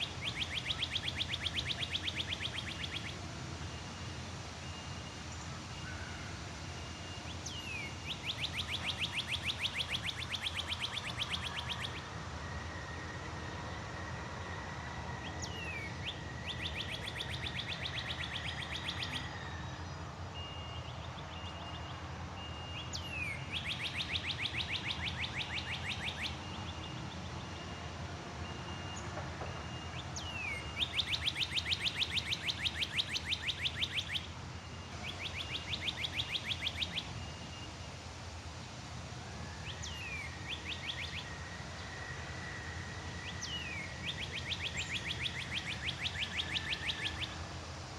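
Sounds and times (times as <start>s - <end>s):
songbird whistle and trill: 0.0s - 38.0s, 39.3s - 47.6s.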